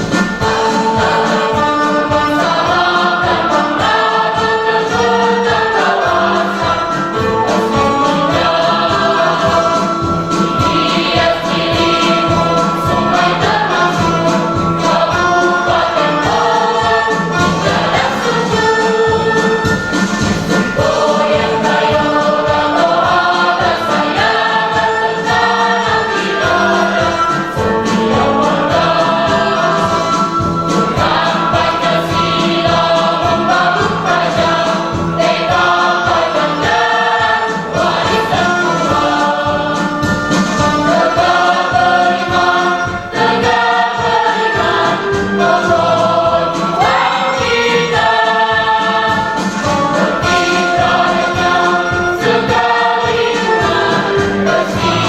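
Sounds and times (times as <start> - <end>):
choir singing a march song: 0.0 - 55.0
rhythmic accompaniment: 0.0 - 55.0.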